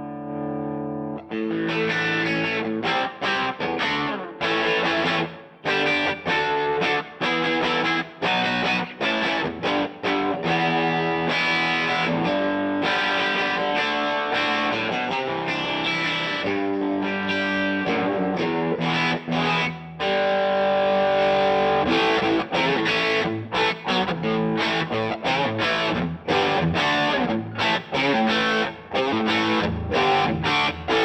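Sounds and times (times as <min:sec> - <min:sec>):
distorted electric guitar riffing: 0:00.0 - 0:31.0.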